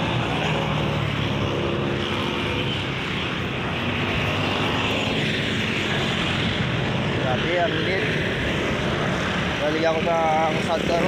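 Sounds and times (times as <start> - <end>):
road traffic noise: 0.0 - 11.0
vehicle engine hum: 0.0 - 11.0.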